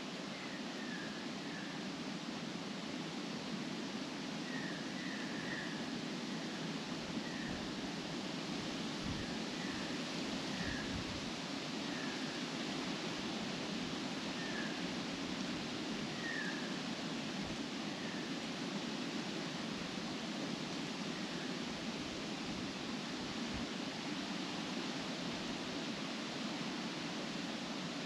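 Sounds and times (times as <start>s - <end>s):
wind rustling leaves and grass: 0.0s - 28.0s.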